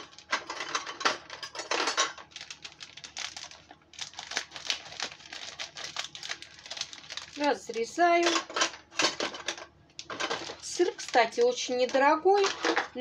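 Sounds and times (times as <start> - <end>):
plastic bag rustling: 0.0 - 8.6, 9.2 - 13.0.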